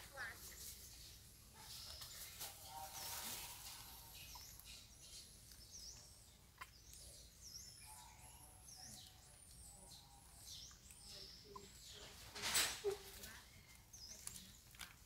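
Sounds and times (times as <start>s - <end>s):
birds chirping and whistling: 0.7s - 14.7s.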